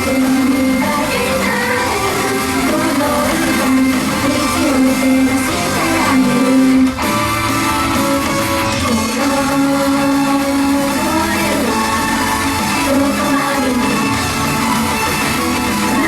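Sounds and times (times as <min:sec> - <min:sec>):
woman singing: 0:00.0 - 0:07.0, 0:08.0 - 0:14.9
electric guitar: 0:00.0 - 0:16.0
pop song over loudspeakers: 0:00.0 - 0:16.0.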